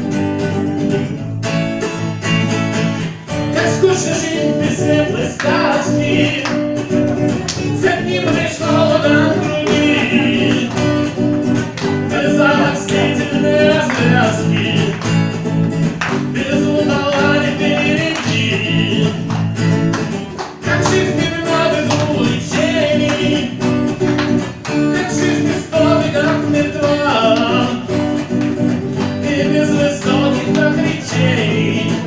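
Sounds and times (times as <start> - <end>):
guitar accompaniment: 0.0 - 32.0
person singing with vibrato: 3.1 - 19.6, 20.6 - 28.3, 28.9 - 32.0.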